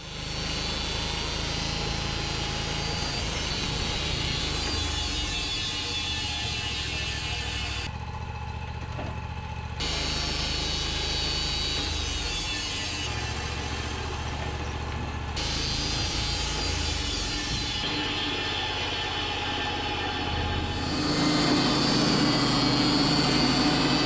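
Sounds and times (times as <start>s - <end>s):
band sawmill cutting log: 0.0s - 7.9s, 9.8s - 24.0s.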